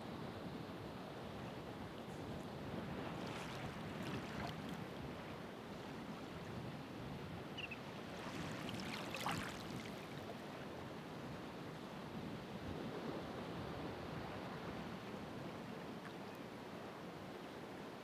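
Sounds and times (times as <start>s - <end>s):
ocean waves washing on shore: 1.2s - 16.0s.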